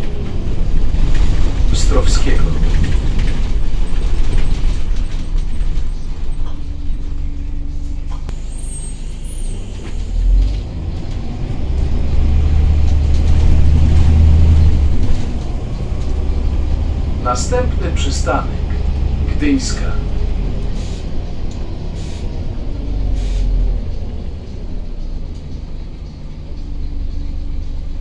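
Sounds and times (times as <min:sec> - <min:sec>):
bus engine rumble: 0:00.0 - 0:28.0.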